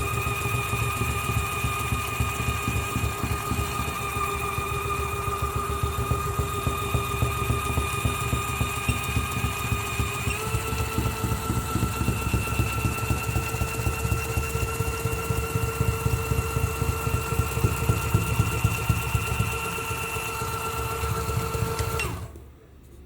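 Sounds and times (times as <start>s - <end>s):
small electric motor whining: 0.0s - 22.4s.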